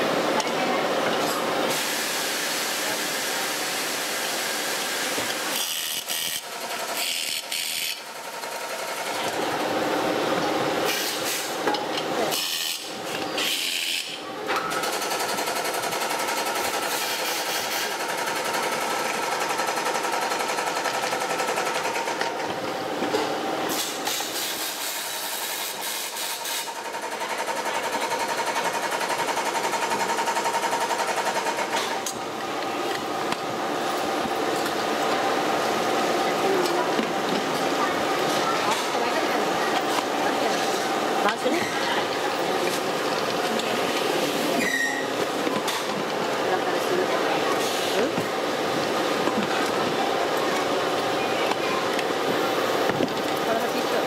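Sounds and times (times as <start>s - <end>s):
workshop machinery humming: 0.0s - 54.0s.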